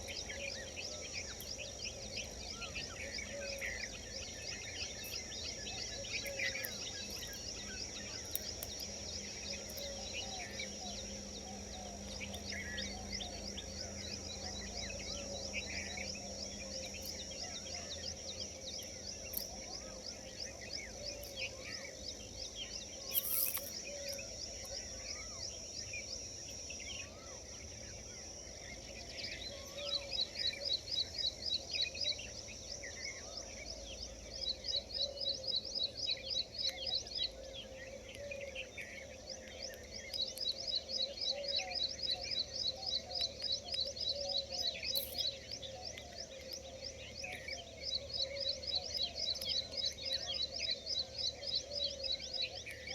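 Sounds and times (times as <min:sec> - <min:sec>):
small birds chirping and calling: 0:00.0 - 0:52.9.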